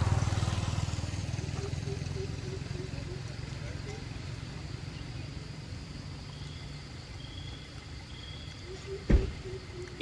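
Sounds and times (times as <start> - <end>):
faint high insect calls: 0.1 - 10.0.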